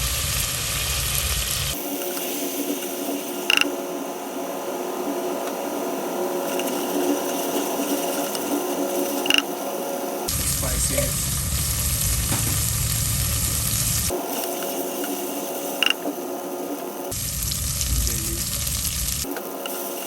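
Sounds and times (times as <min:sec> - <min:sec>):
steady hum: 0:00.0 - 0:14.2, 0:14.9 - 0:20.0
spices sizzling in oil: 0:00.0 - 0:20.0.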